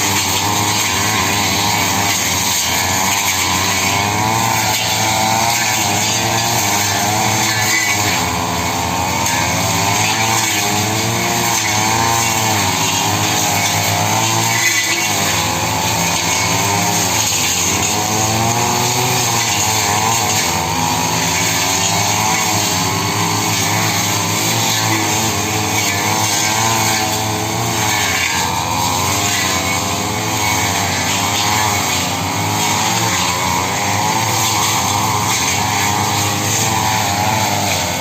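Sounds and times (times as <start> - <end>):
brush cutter engine running: 0.0 - 38.0.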